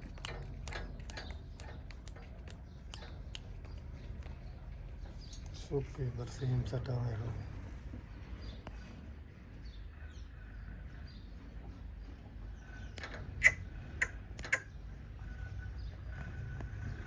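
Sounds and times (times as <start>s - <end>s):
low steady rumble: 0.0s - 17.0s
small birds chirping: 0.0s - 17.0s.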